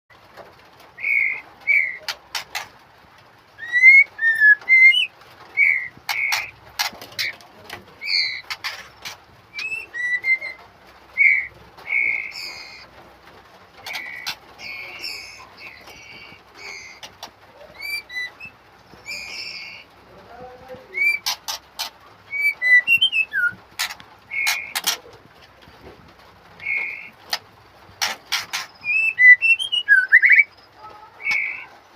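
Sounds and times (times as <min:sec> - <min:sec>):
songbirds chirping and whistling: 0:00.2 - 0:31.9.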